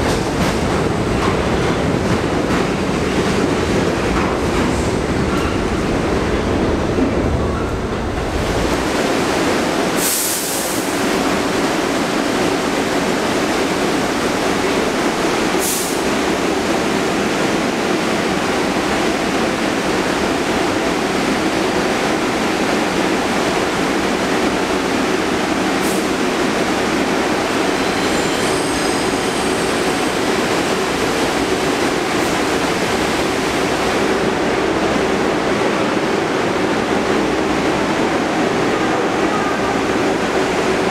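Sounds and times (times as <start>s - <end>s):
subway train rumble: 0.0s - 40.9s.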